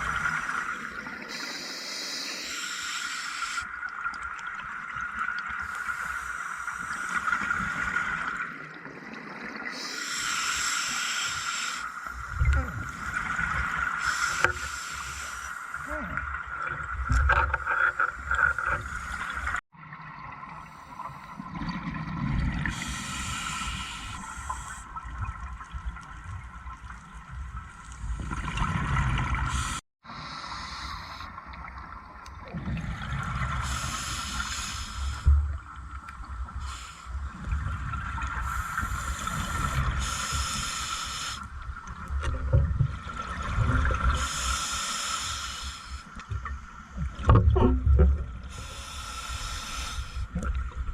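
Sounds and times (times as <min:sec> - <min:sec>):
exhaled air bubbling underwater: 0:00.0 - 0:50.9.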